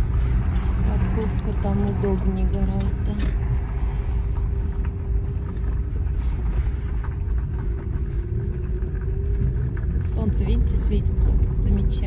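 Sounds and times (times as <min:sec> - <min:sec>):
car engine and road rumble: 0:00.0 - 0:12.0
faint steady drone: 0:00.0 - 0:12.0.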